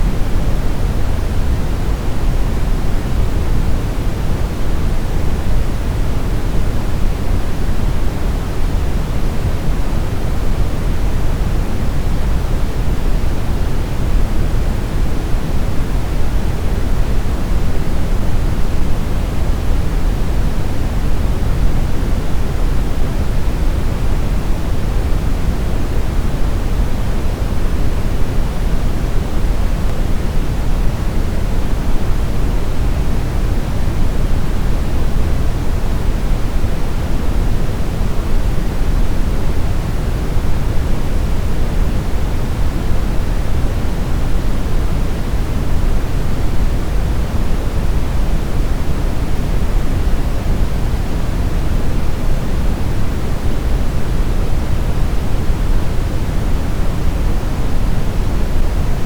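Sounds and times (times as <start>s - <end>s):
brown noise rumbling hiss: 0.0s - 59.0s.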